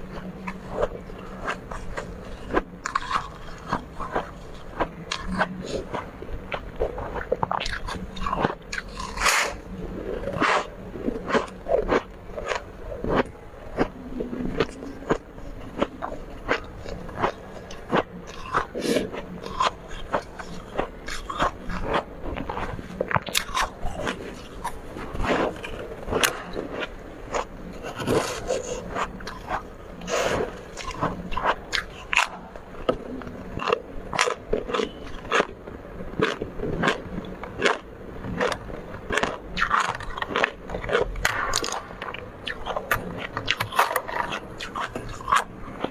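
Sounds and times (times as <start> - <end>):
chewing crunchy frost: 0.0 - 45.9.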